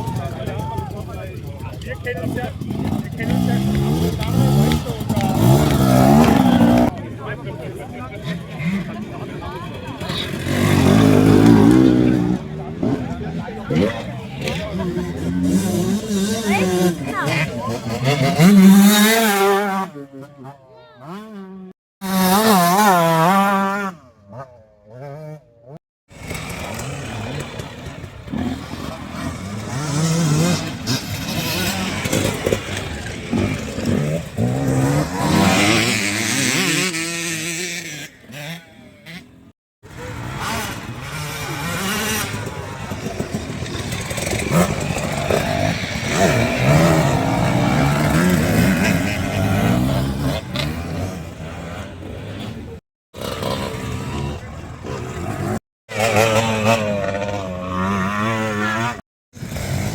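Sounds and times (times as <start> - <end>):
motocross bikes revving: 0.0 - 59.9.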